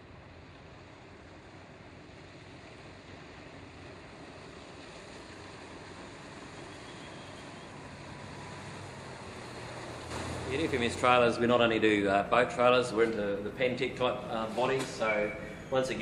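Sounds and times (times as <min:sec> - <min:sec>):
hull rushing through water: 0:00.0 - 0:16.0
outboard engine hum: 0:00.0 - 0:16.0.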